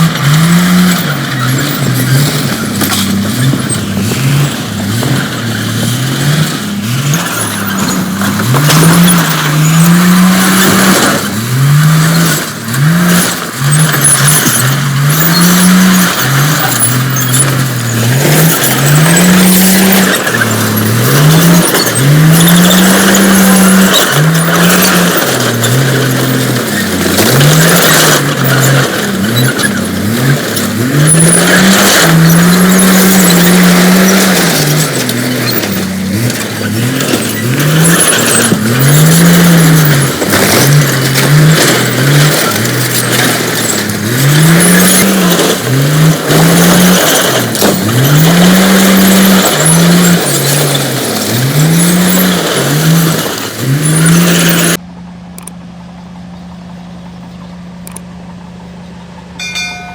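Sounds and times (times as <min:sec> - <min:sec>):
bulldozer diesel engine revving: 0:00.0 - 0:59.9.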